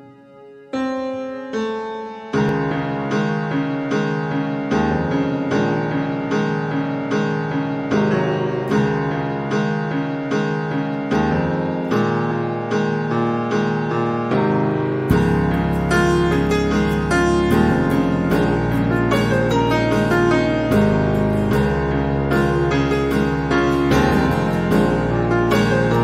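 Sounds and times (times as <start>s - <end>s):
keyboard music: 0.0s - 26.0s.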